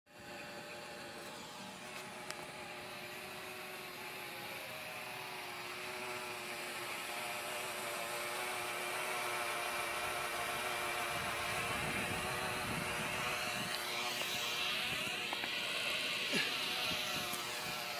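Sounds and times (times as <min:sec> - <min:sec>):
drone propellers whirring: 0:00.1 - 0:17.9.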